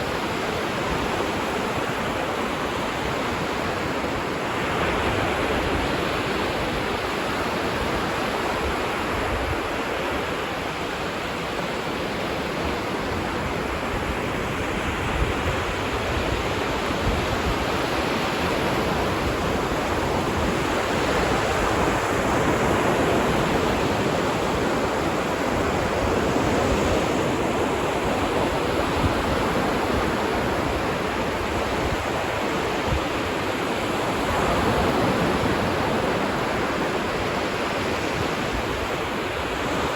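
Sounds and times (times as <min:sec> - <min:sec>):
ocean surf washing: 0:00.0 - 0:39.9.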